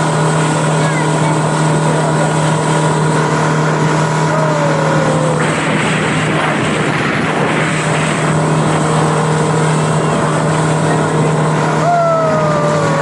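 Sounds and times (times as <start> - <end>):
loud rushing noise: 0.0 - 13.0
motorboat engine humming: 0.0 - 13.0.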